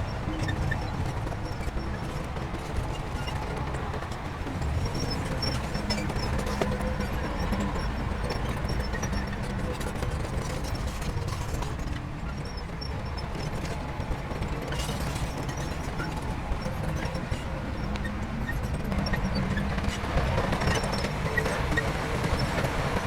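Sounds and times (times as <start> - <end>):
clanks and knocks: 0.0 - 23.0
diesel machinery droning: 0.0 - 23.0.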